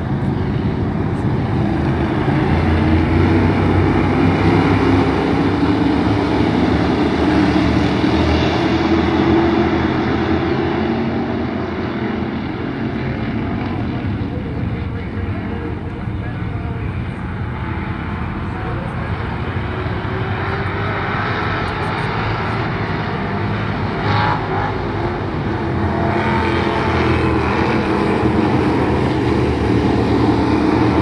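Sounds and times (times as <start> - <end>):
stock car engines racing: 0.0 - 31.0.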